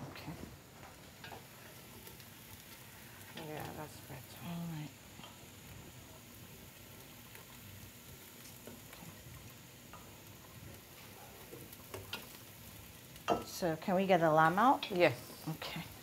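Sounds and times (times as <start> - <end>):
faint sizzling of frying potatoes: 0.0 - 16.0.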